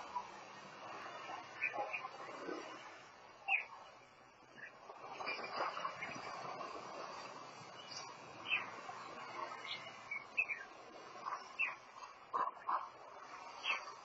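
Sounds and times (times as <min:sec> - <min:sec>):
steady rumbling noise: 0:00.0 - 0:14.0.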